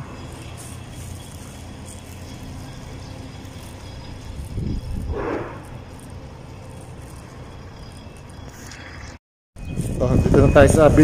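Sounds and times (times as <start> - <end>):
road traffic rumble: 0.0 - 9.2.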